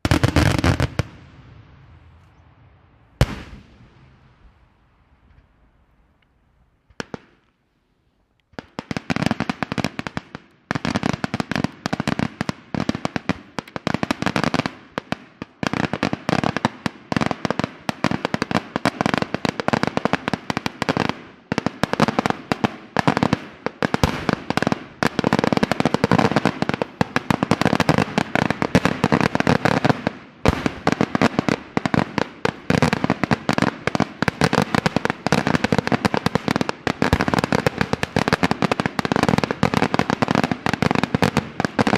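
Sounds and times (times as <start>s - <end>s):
fireworks bangs: 0.0s - 6.2s, 8.5s - 41.9s.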